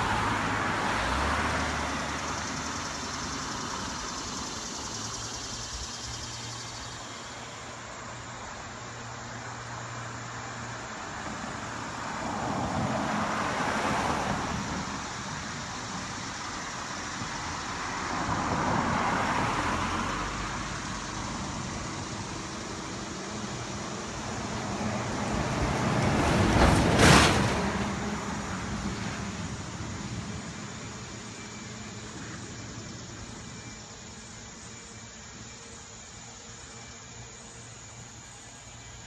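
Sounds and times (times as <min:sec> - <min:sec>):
cars passing by: 0:00.0 - 0:39.0.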